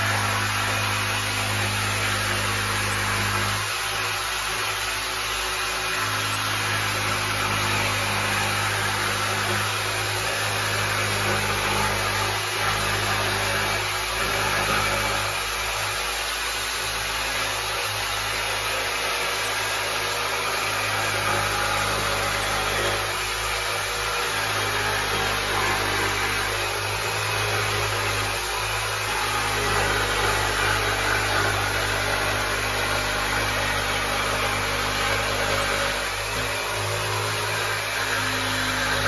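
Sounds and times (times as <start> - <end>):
jigsaw cutting: 0.0 - 39.0.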